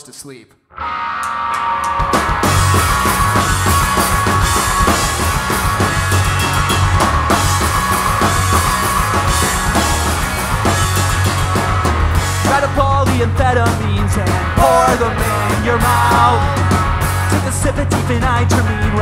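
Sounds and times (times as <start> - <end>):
punk rock band playing: 0.8 - 19.0
fast drum kit beat: 2.0 - 19.0.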